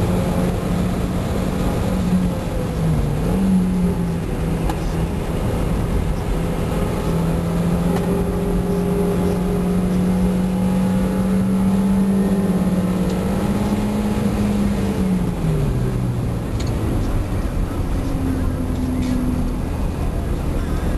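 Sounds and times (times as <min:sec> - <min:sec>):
car engine pulling: 0:00.0 - 0:20.9
road noise: 0:00.0 - 0:20.9.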